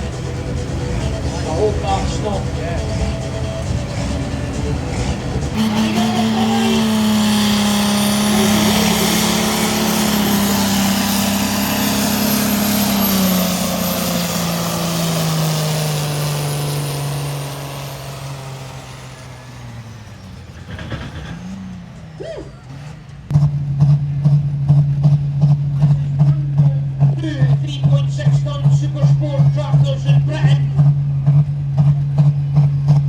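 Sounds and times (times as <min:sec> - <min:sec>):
tractor engine at full power: 0:00.0 - 0:33.0.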